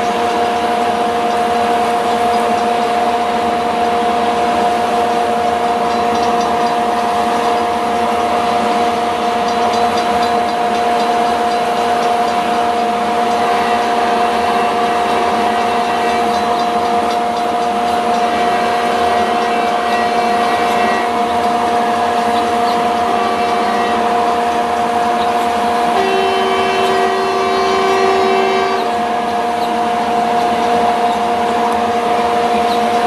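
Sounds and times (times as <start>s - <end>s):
train mechanical drone: 0.0s - 33.0s
whining tone: 0.0s - 33.0s.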